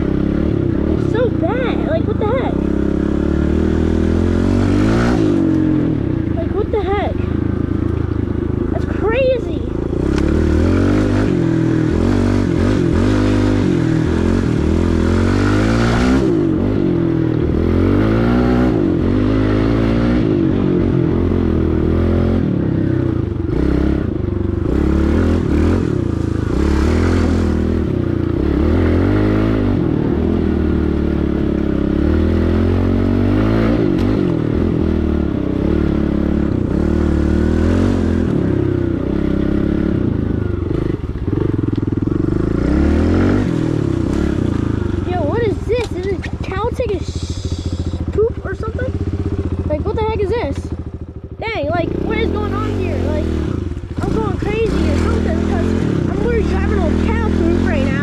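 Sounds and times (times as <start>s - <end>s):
pit bike engine revving: 0.0s - 58.0s.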